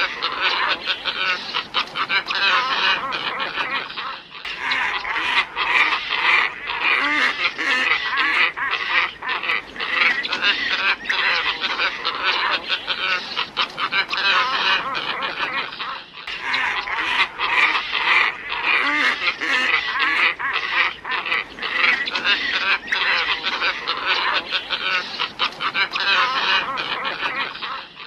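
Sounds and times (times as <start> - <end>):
flock of ibises calling: 0.0 - 28.0.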